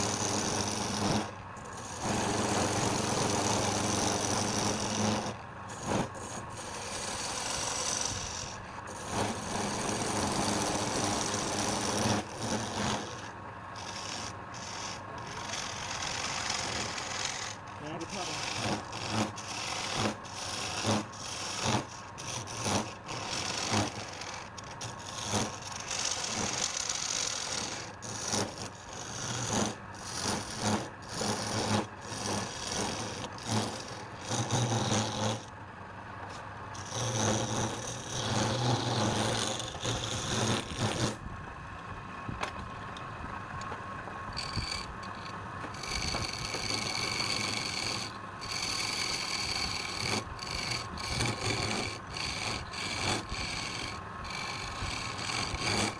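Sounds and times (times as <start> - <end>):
rasp filing wood: 0.0 - 35.6, 36.2 - 41.2, 44.3 - 55.9.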